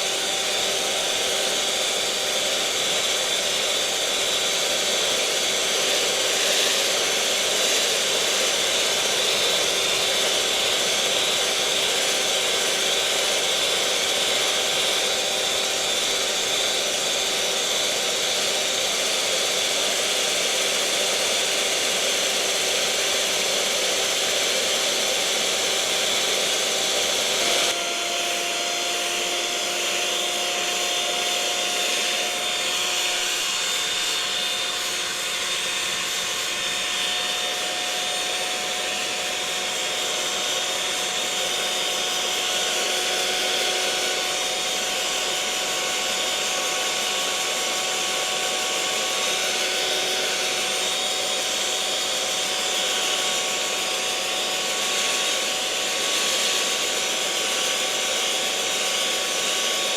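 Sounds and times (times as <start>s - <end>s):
electric mixer whirring: 0.0s - 59.9s.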